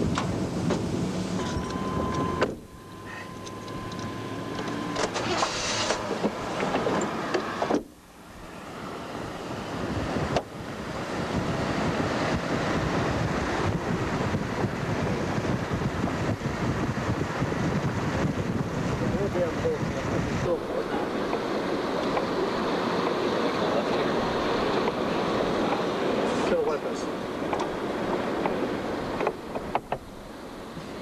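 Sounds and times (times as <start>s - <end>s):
vehicle road and wind noise: 0.0s - 31.0s.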